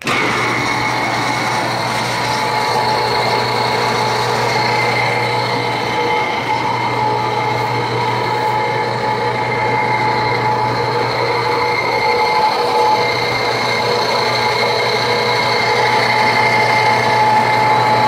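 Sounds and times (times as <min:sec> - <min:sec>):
grain cleaner machine humming and rattling: 0:00.0 - 0:18.0.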